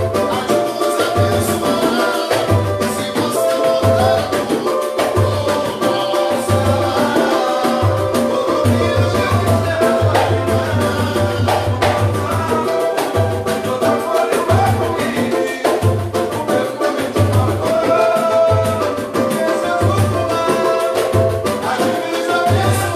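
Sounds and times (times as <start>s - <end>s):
dense percussion: 0.0s - 22.9s
person singing: 0.0s - 22.9s.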